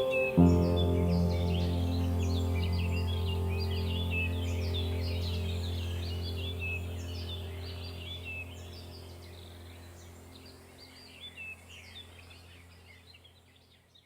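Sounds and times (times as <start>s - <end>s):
low steady hum: 0.0s - 13.4s
songbirds chirping and trilling: 0.0s - 14.0s.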